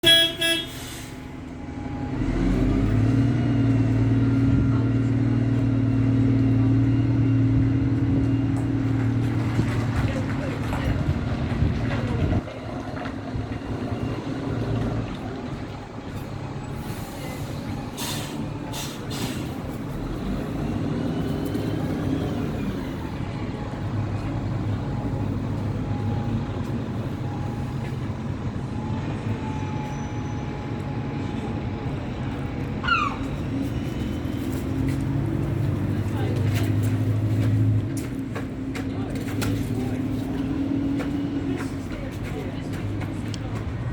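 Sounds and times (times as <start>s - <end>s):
large engine rumbling: 0.0s - 43.9s.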